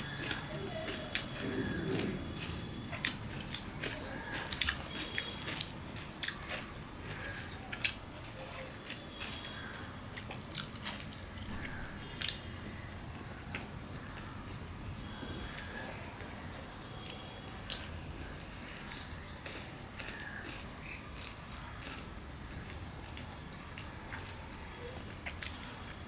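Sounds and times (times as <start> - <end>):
man chewing food: 0.0 - 26.0.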